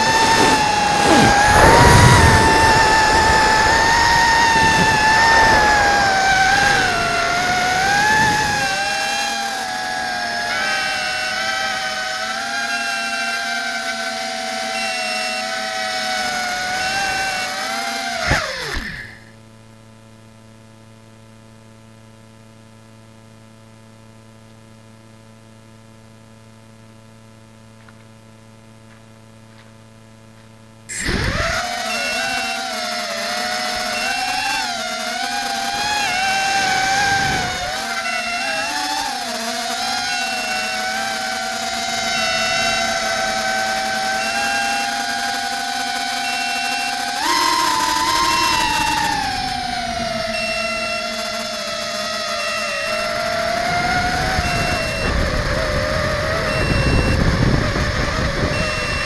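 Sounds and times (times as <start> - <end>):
quadcopter motors whining: 0.0 - 19.5, 27.8 - 59.0.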